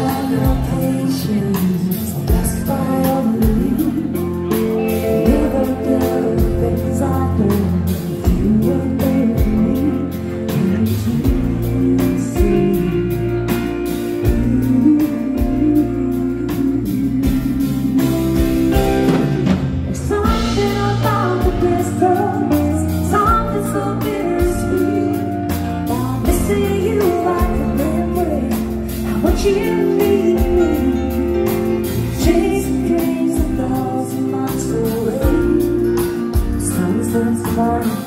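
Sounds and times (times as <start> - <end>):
live band playing slow ballad: 0.0 - 38.0
woman singing: 0.0 - 38.0.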